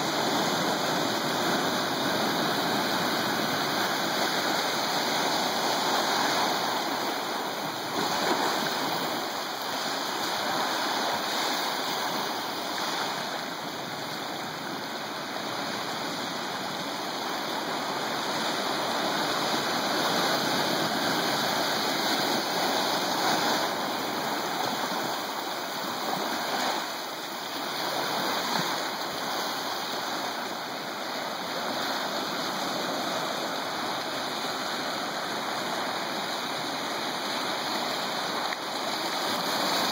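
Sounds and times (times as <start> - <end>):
surf washing against rocky shore: 0.0 - 39.9.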